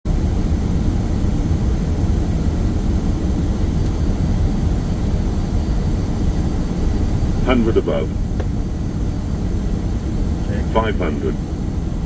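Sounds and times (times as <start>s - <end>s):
airflow and engines rumbling: 0.0s - 12.0s.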